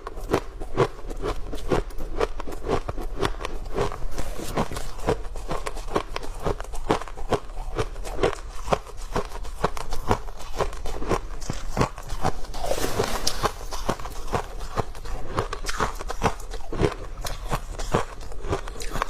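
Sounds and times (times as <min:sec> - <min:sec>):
person chewing crunchy frost: 0:00.0 - 0:19.0.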